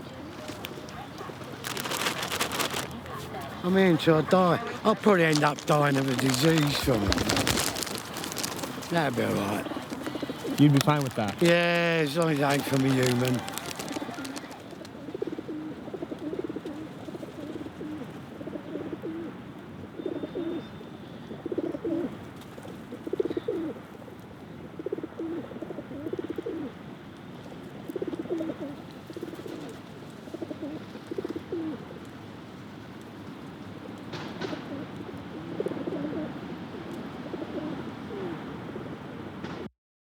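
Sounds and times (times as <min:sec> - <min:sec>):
pigeons cooing: 0:00.0 - 0:32.2, 0:33.2 - 0:38.9.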